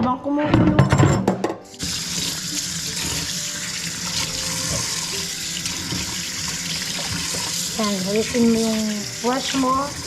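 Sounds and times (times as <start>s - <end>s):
tap water splashing into sink: 1.8s - 10.0s.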